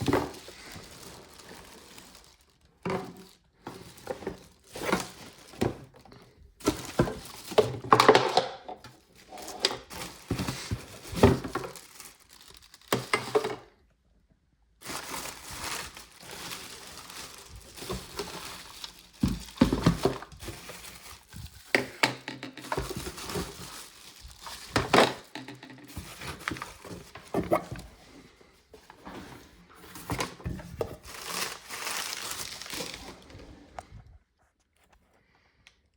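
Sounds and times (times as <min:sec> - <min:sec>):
plastic wrap crinkling: 0:00.0 - 0:13.7, 0:14.8 - 0:27.9, 0:28.9 - 0:34.9.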